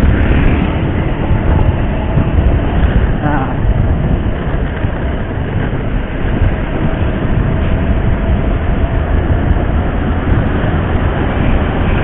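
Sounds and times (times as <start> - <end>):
road rumble: 0.0 - 12.0
wind while riding motorcycle: 0.0 - 12.0.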